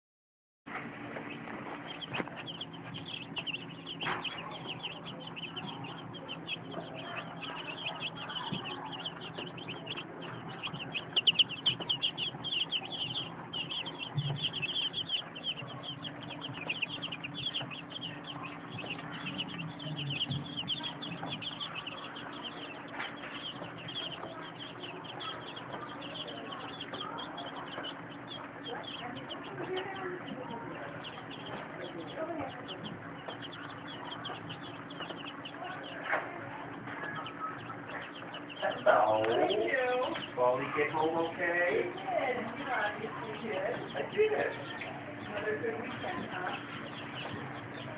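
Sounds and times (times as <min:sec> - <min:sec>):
chicks peeping: 0:00.7 - 0:47.9
faint low hum: 0:00.7 - 0:47.9.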